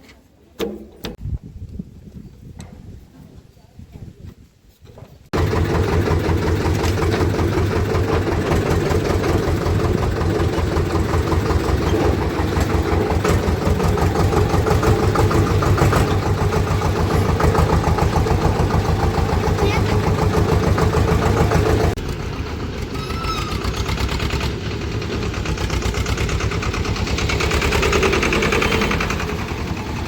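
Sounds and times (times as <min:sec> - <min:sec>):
tractor diesel engine running: 0:05.3 - 0:30.0.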